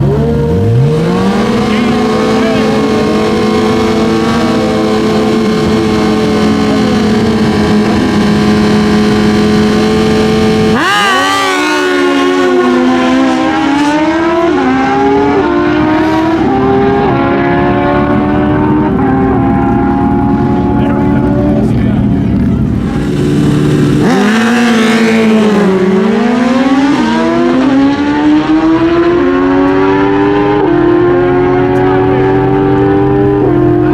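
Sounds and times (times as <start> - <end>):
motorcycle engine at high revs: 0.0 - 33.9.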